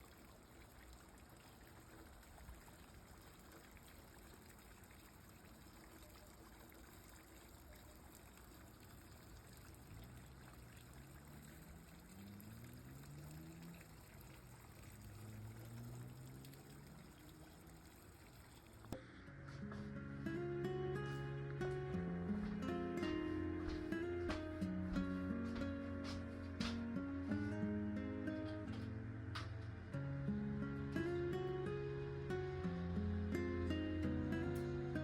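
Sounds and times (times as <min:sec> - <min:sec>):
rain falling: 0:00.0 - 0:19.0, 0:20.0 - 0:35.0.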